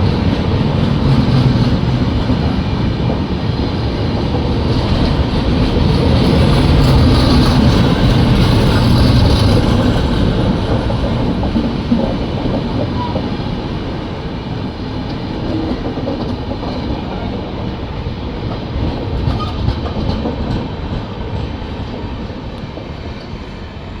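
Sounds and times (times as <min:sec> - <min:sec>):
train running on track: 0:00.0 - 0:24.0.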